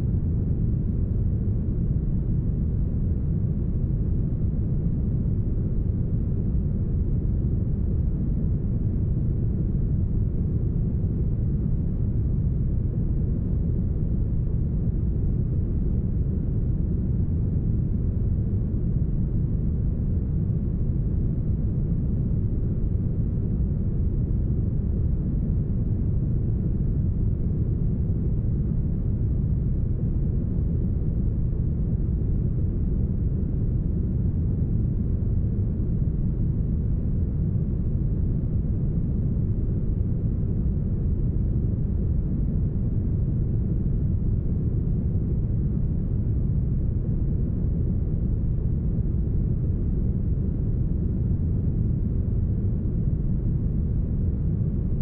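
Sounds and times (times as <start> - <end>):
low rumbling brown noise: 0.0 - 55.0.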